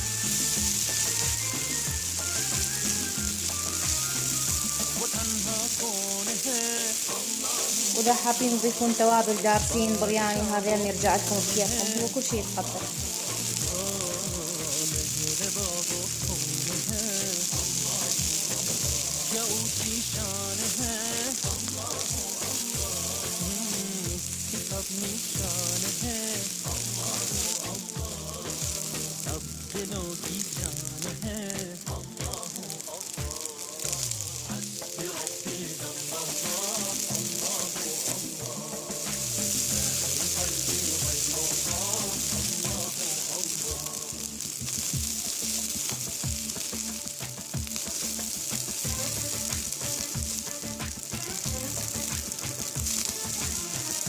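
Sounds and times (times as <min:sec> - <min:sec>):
grains sizzling in a pot: 0:00.0 - 0:54.0
melodic background music: 0:00.0 - 0:54.0.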